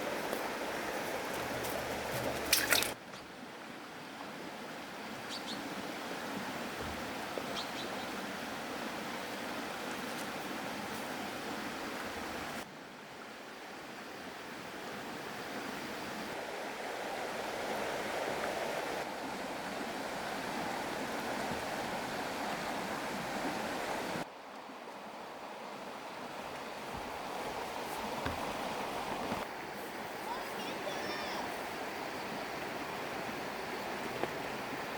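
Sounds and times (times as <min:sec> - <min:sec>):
rushing river water: 0:00.0 - 0:34.9.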